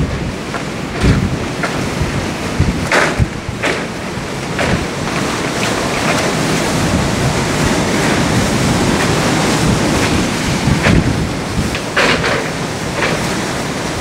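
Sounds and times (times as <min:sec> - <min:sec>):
wind rushing with rumbling gusts: 0:00.0 - 0:14.0.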